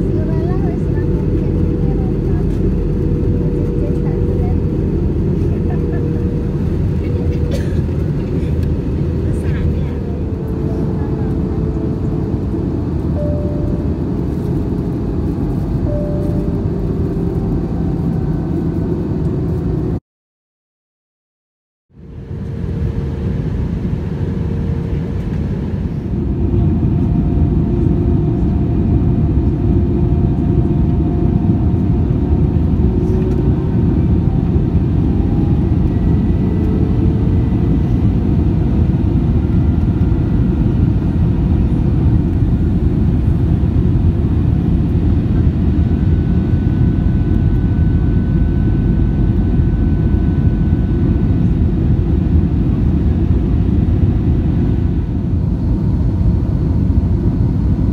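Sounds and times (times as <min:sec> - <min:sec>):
jet engine and airflow rumble: 0:00.0 - 0:20.0, 0:21.9 - 0:57.9
thin engine whine: 0:00.0 - 0:20.0, 0:22.0 - 0:57.9.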